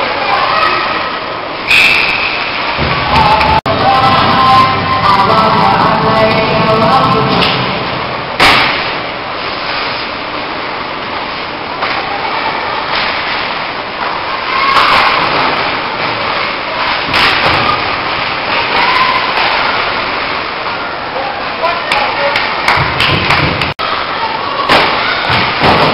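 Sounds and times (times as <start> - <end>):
skating and crowd noise: 0.0 - 25.9.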